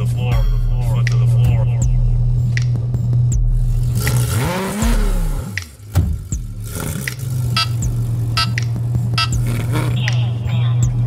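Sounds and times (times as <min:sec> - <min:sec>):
car engine revving: 0:00.0 - 0:11.0
steady low hum: 0:00.0 - 0:11.0.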